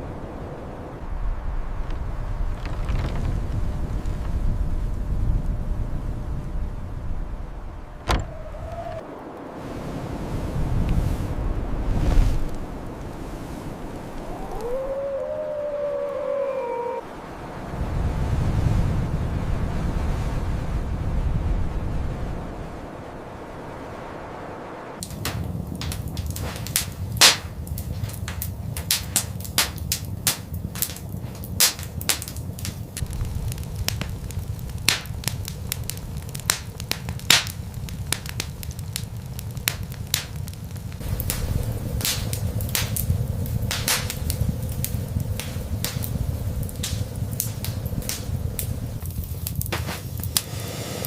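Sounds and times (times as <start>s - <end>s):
steady low rumble: 0.0s - 51.0s
sharp crackles and pops: 1.0s - 17.1s, 25.0s - 51.0s.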